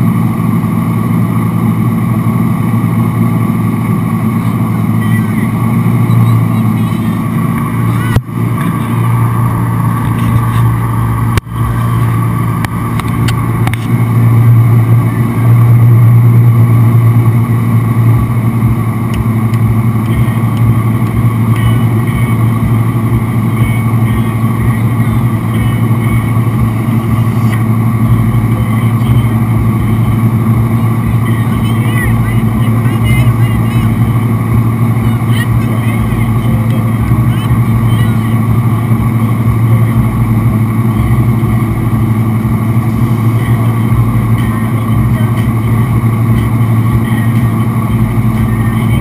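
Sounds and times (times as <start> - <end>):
boat engine running: 0.0 - 49.0.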